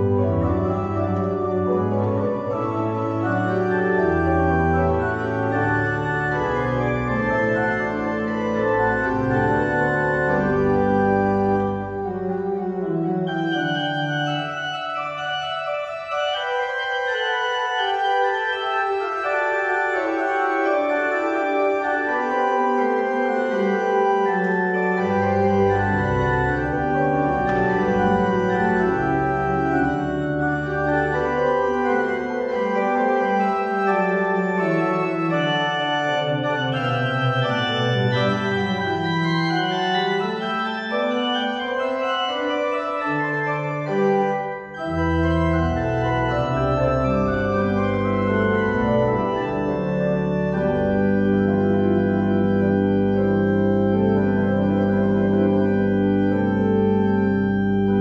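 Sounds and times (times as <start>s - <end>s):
pipe organ chords: 0.0s - 58.0s.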